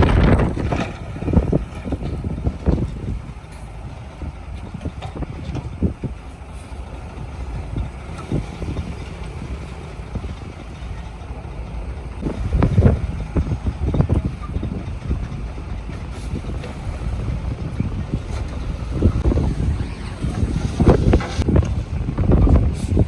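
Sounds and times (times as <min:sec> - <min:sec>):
heavy diesel machinery rumble: 0:00.0 - 0:23.0
knocks and clatter: 0:00.0 - 0:23.0.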